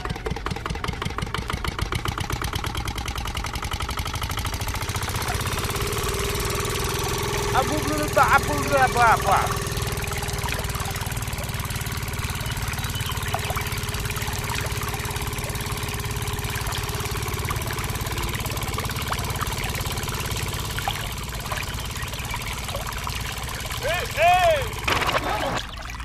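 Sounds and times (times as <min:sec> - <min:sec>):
small diesel engine chugging: 0:00.0 - 0:25.6
water trickling into a tank: 0:04.6 - 0:26.0.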